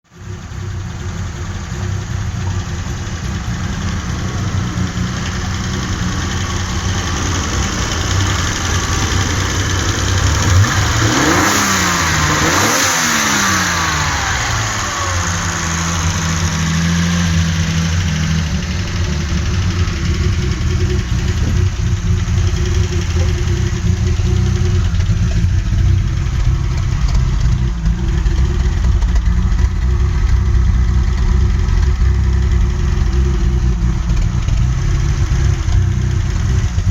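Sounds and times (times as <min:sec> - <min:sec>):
misfiring car engine revving: 0:00.1 - 0:36.9.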